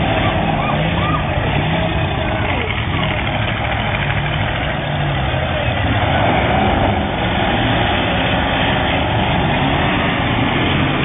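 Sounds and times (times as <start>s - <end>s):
car engines running: 0.0s - 11.0s.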